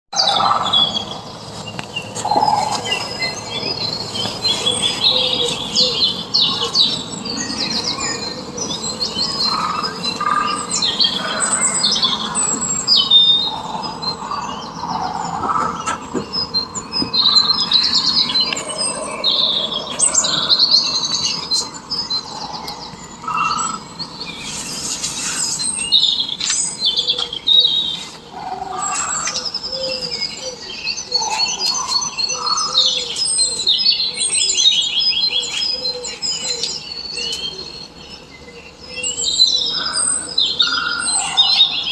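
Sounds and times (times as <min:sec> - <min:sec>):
birds chirping: 0:00.1 - 0:41.9.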